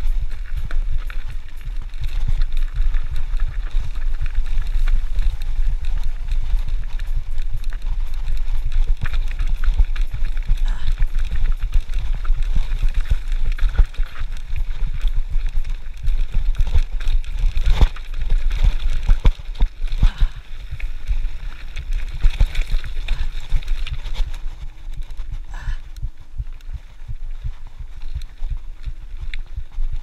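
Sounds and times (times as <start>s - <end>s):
bike knocking and rattling: 0.0s - 30.0s
mountain bike rumbling on dirt trail: 0.0s - 30.0s.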